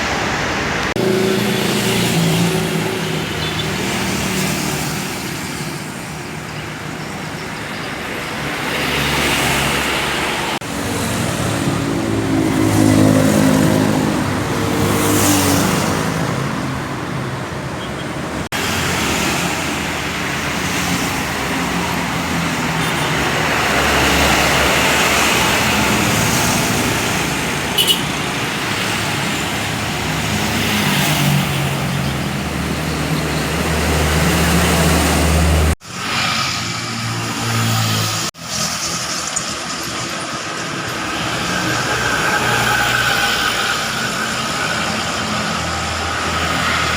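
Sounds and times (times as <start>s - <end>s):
cars and motorcycles passing: 0.0s - 46.9s
rumble of tyres and engines: 0.0s - 46.9s.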